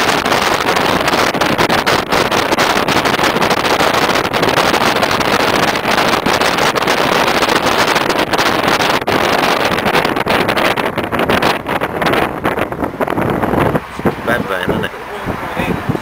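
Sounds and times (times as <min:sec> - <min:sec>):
vehicle running noise: 0:00.0 - 0:16.0
wind on microphone: 0:00.0 - 0:16.0.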